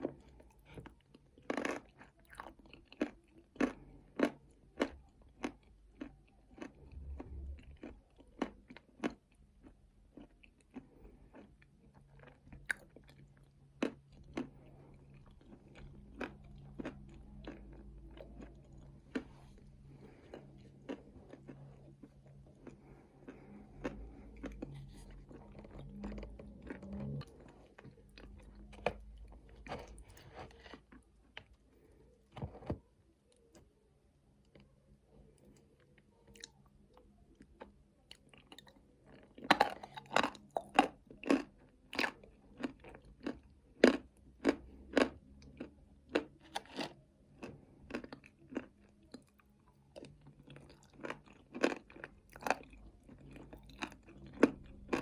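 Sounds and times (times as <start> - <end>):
chewing and crunching nuts: 0.0 - 55.0.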